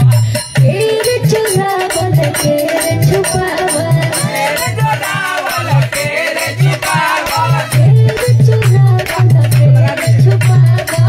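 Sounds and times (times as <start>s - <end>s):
hand drum beat: 0.0s - 11.0s.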